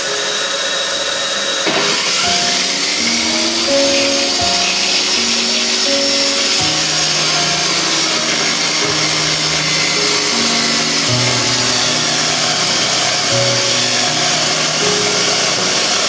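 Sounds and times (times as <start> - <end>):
power tool grinding: 0.0 - 16.0
slow background music: 0.1 - 16.0.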